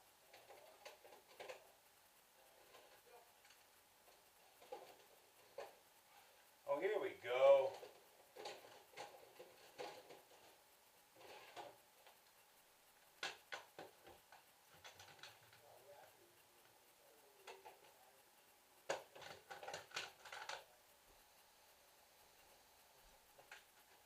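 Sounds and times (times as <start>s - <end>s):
faint clicks and light clatter: 0.0s - 24.0s.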